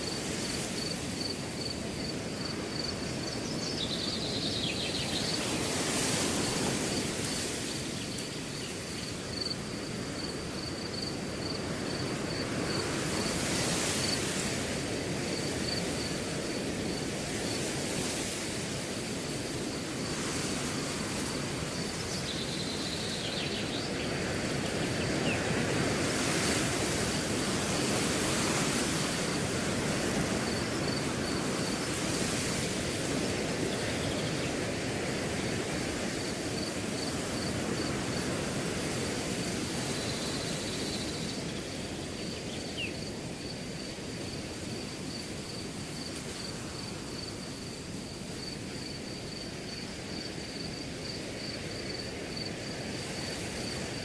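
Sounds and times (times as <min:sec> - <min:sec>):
crickets chirping: 0:00.0 - 0:54.0
wind blowing through grass: 0:00.0 - 0:54.0.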